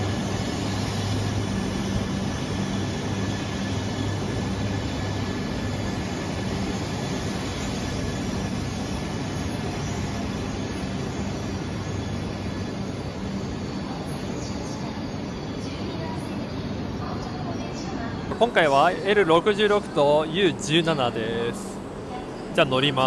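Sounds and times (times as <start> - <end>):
train wheels rumbling: 0.0 - 21.1.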